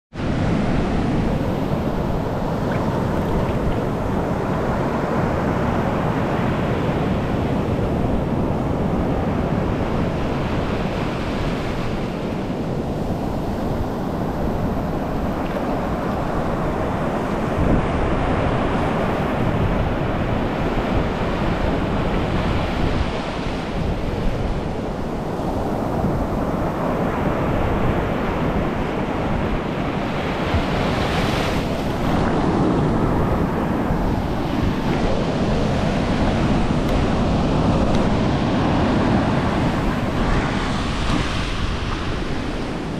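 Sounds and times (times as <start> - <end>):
ocean waves washing on sand: 0.1 - 42.9.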